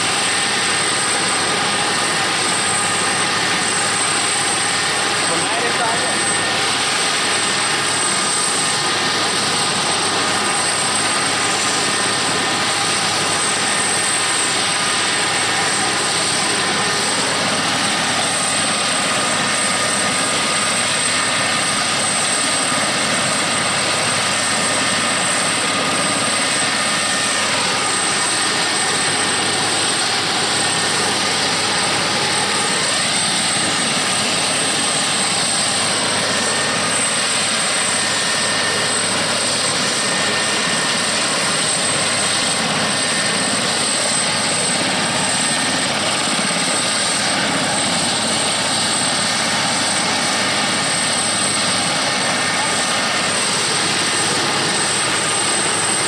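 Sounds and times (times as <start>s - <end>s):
helicopter turbine and rotor idling: 0.0s - 56.0s.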